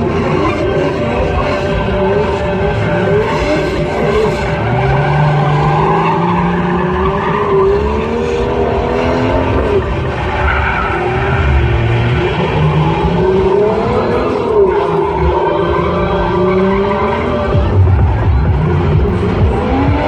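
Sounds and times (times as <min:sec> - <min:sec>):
car engine revving: 0:00.0 - 0:20.0
tyres skidding on tarmac: 0:00.0 - 0:20.0.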